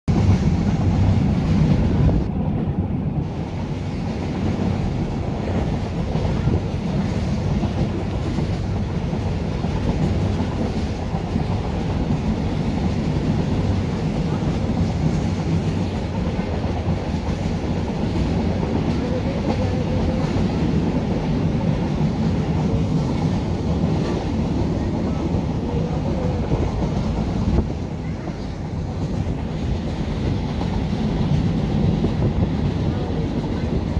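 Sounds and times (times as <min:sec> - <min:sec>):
train rumbling on rails: 0:00.0 - 0:33.9.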